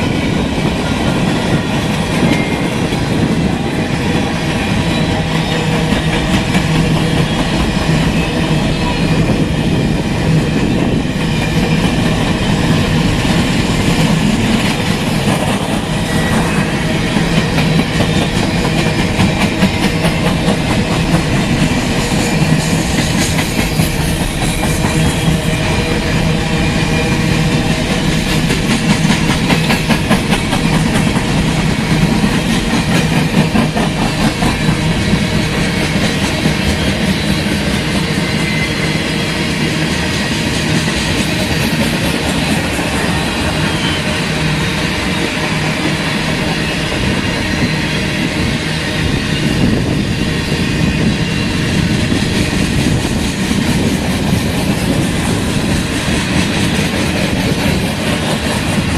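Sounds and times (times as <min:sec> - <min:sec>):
train wheels clattering on rails: 0:00.0 - 0:58.9.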